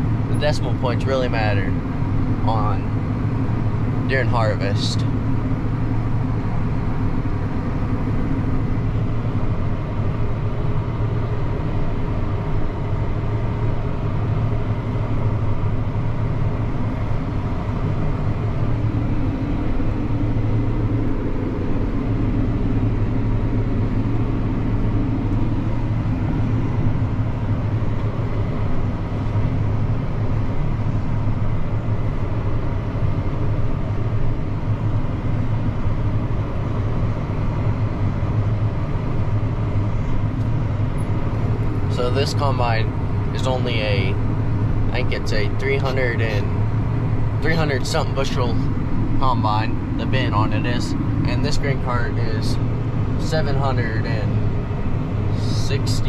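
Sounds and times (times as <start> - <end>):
tractor engine drone: 0.0 - 56.0.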